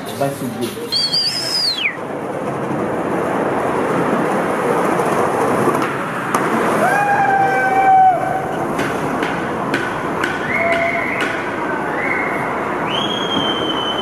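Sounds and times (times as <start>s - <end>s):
skateboard wheels rumbling: 0.9s - 14.0s.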